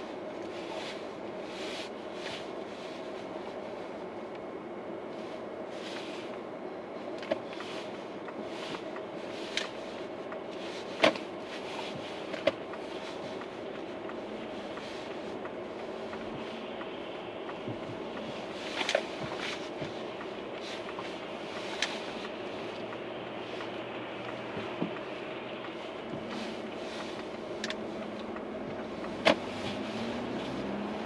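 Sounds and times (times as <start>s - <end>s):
steady whine: 0.0s - 31.0s
vehicle running hum: 0.0s - 31.0s.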